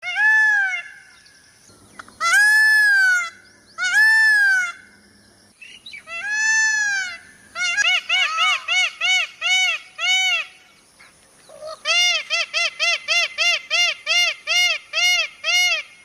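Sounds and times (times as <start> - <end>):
peacock calling: 0.0 - 16.0.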